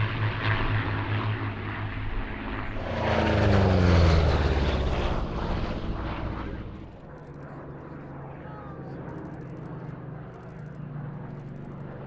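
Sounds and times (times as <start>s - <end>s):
propeller plane engines droning: 0.0s - 12.0s.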